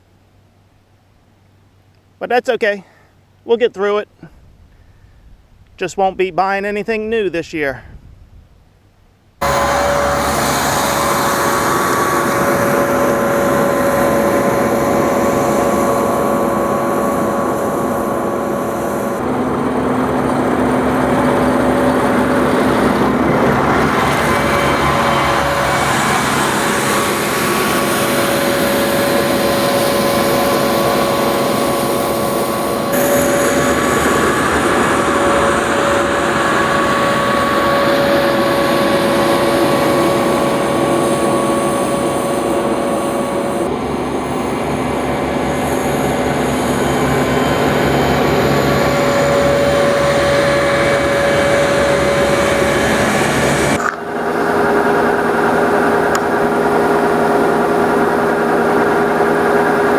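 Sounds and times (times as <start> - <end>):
combine harvester droning: 9.4 - 59.9.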